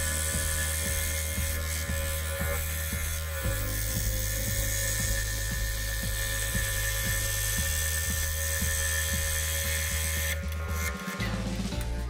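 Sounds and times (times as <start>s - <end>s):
scroll saw motor hum and whine: 0.0s - 12.0s.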